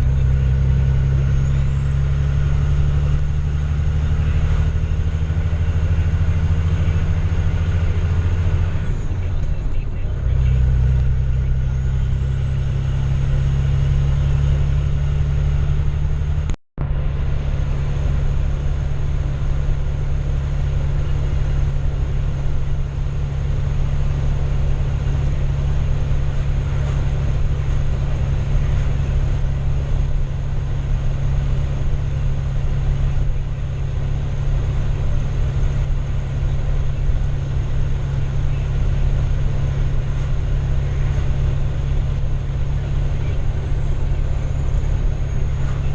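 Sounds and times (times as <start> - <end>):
tractor diesel engine droning: 0.0 - 45.9.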